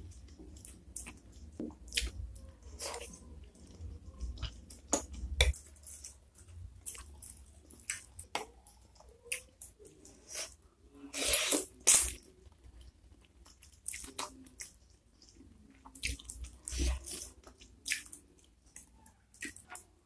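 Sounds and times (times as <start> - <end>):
wet chewing and lip-smacking: 0.1 - 10.4, 13.2 - 19.9.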